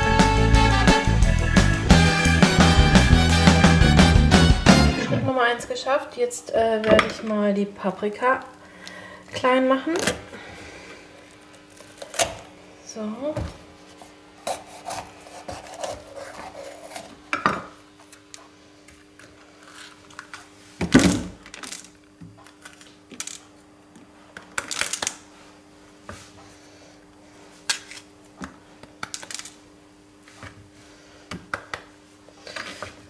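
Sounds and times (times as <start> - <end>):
faint steady hum: 5.1 - 33.0.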